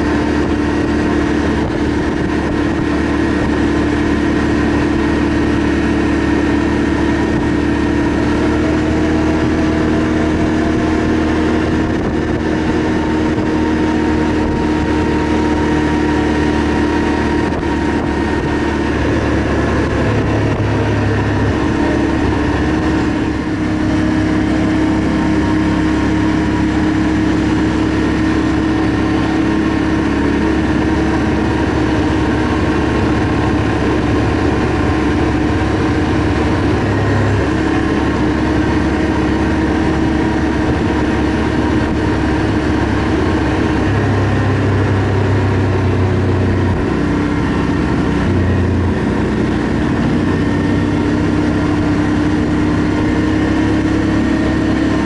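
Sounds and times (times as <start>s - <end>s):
atv engine running: 0.0s - 55.0s
road noise: 0.0s - 55.0s.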